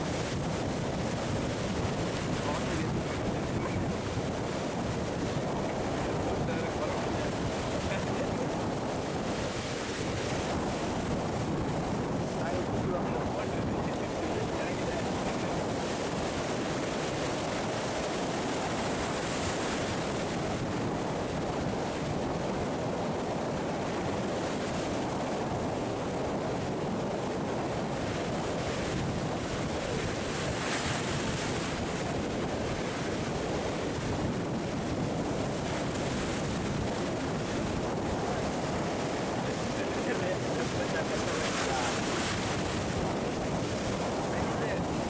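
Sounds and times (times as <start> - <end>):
surf breaking over rocks: 0.0 - 45.0
wind buffeting microphone: 0.0 - 45.0.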